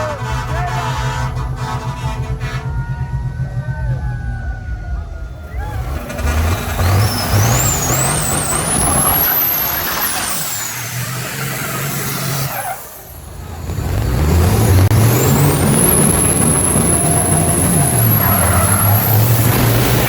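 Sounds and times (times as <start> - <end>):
truck engine accelerating: 0.0 - 20.0.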